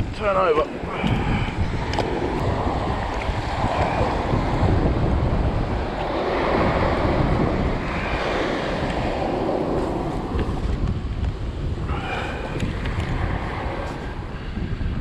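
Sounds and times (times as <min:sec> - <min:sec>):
wind buffeting the microphone: 0:00.0 - 0:15.0
surf washing up the beach: 0:00.1 - 0:15.0.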